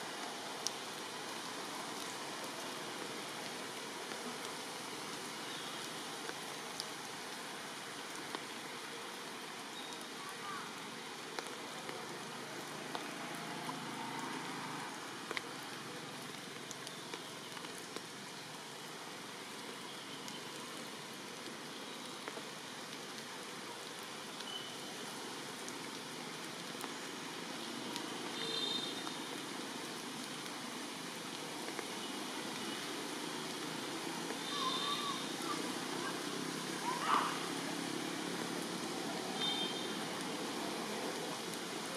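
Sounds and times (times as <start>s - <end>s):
raindrops ticking on surfaces: 0.0s - 41.9s
steady rain: 0.0s - 41.9s.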